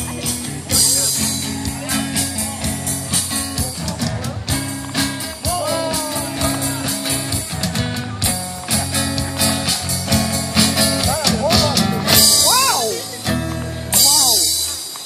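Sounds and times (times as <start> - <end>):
bass guitar: 0.0 - 15.0
drums and cymbals: 0.0 - 15.0
electric guitar bending melody: 0.0 - 15.0.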